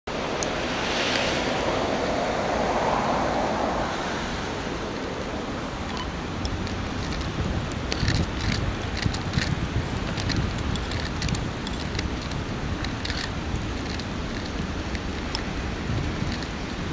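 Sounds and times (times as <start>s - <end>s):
train wheels rumbling on rail: 0.1s - 16.9s.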